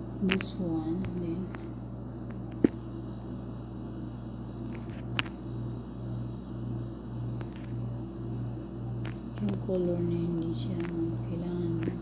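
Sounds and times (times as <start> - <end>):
pulsing low hum: 0.0 - 12.0.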